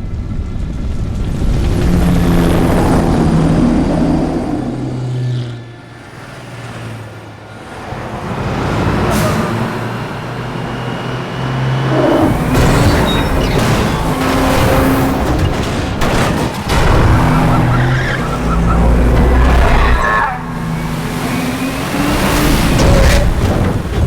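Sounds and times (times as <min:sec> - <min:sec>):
vehicles driving at speed: 0:00.0 - 0:24.0.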